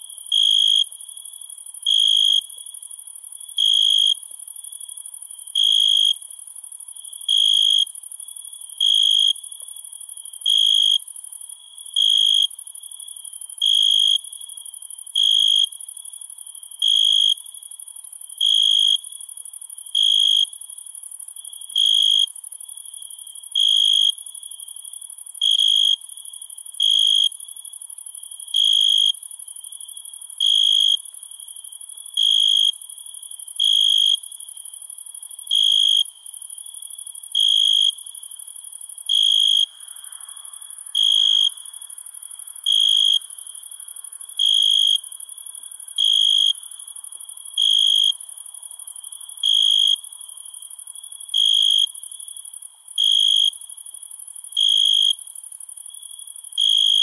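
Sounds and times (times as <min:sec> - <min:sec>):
cricket chirps: 0:00.0 - 0:57.0
faint cricket trill: 0:00.0 - 0:57.0.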